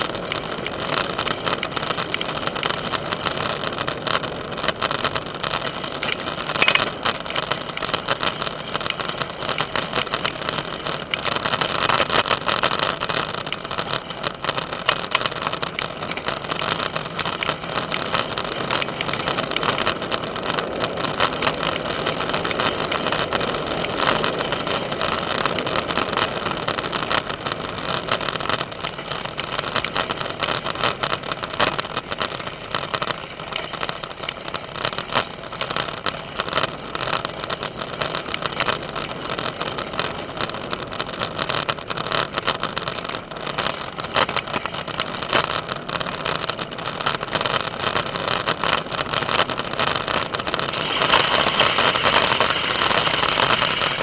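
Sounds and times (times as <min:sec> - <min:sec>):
bicycle tyres crunching gravel: 0:00.0 - 0:54.0.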